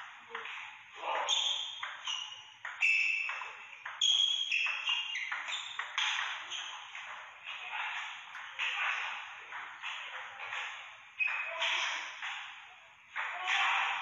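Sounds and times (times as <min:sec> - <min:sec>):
table tennis ball hits: 0:01.4 - 0:14.0.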